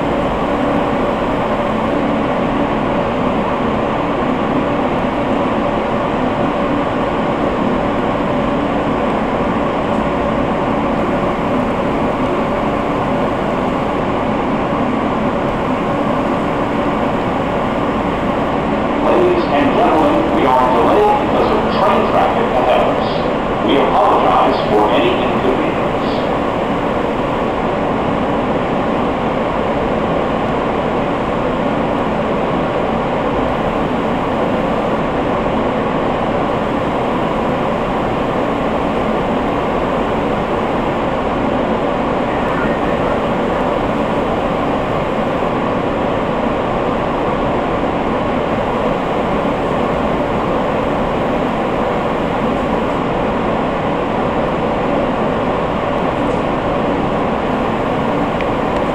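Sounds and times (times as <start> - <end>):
subway car rumbling: 0.0 - 58.9.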